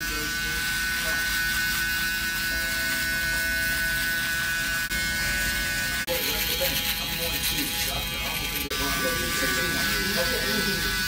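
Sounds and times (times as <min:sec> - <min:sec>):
electric shaver humming: 0:00.0 - 0:11.0.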